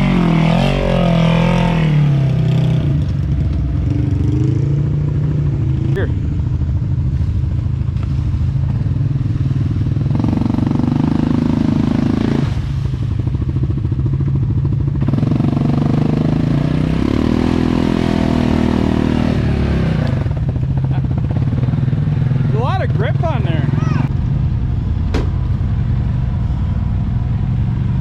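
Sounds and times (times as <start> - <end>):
atv engine revving: 0.0 - 24.5.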